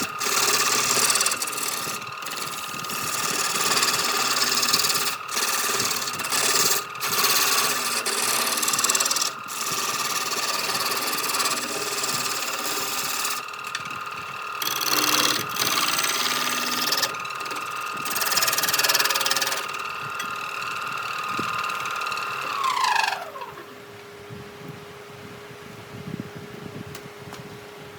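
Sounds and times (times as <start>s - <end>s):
rough scraping on wood: 0.0s - 13.8s, 14.4s - 23.7s
power tool motor whining: 0.0s - 24.1s.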